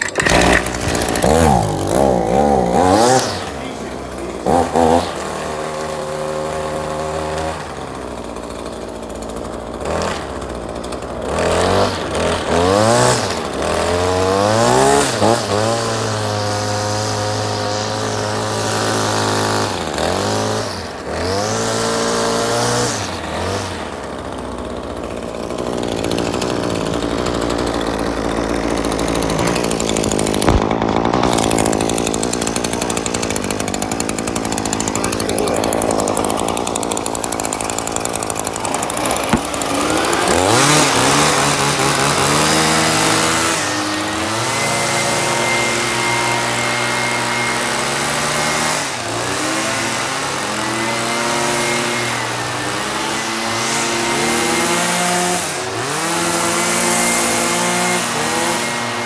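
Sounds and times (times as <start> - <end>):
small two-stroke engine revving: 0.0 - 59.0.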